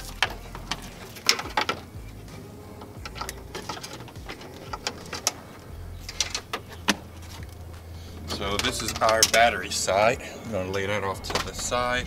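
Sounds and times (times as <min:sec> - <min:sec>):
wires and connectors clicking: 0:00.0 - 0:12.0
wiring harness rustling: 0:00.0 - 0:12.0.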